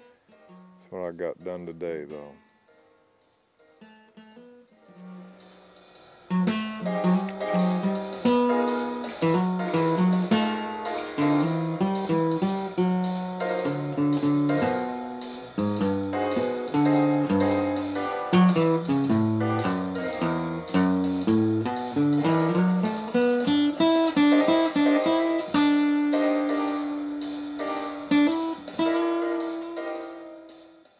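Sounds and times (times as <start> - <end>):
plucked acoustic guitar melody: 0.0 - 2.5, 3.6 - 30.9.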